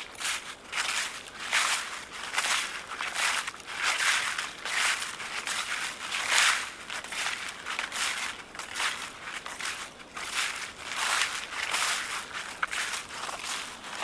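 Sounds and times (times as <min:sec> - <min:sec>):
footsteps crunching dry leaves: 0:00.0 - 0:14.0.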